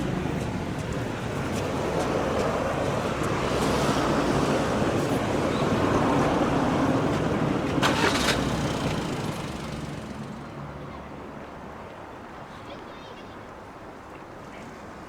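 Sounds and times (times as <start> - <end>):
road traffic: 0.0 - 12.5.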